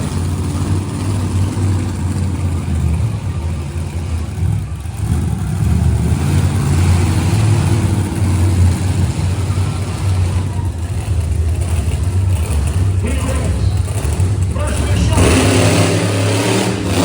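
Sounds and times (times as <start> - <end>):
monster truck engine rumbling: 0.0 - 17.0.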